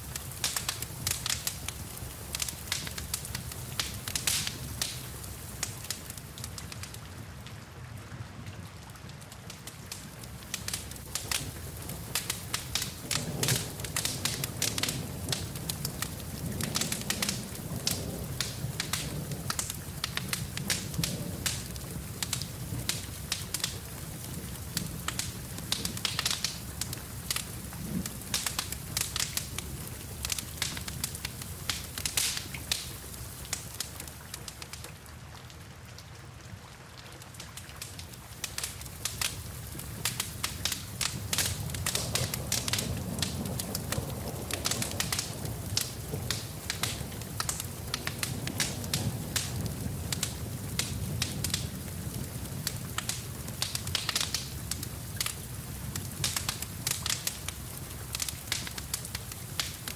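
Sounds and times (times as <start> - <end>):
rain hissing: 0.0 - 7.8, 9.4 - 35.2, 37.5 - 59.9
wood fire crackling and popping: 0.0 - 36.0, 36.7 - 59.9.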